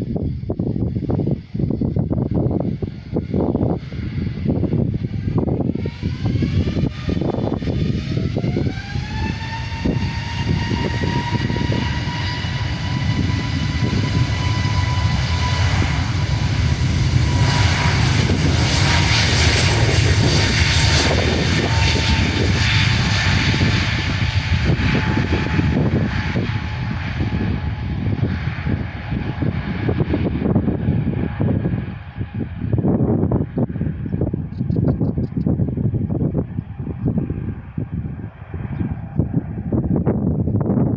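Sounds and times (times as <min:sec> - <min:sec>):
airliner rumbling roar: 0:00.0 - 0:40.9
jet engine whine: 0:00.0 - 0:40.9.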